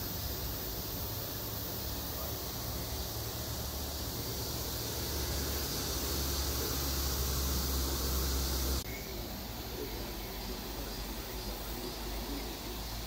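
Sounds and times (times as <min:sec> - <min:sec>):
cicada buzzing: 0:00.0 - 0:13.0.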